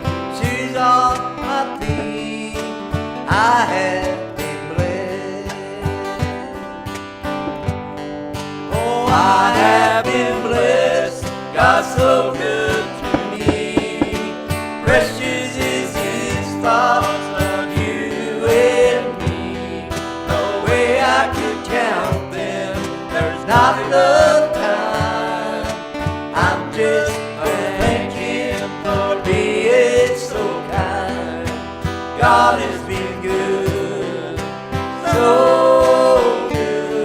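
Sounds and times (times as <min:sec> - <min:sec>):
country gospel song with guitar: 0:00.0 - 0:37.0.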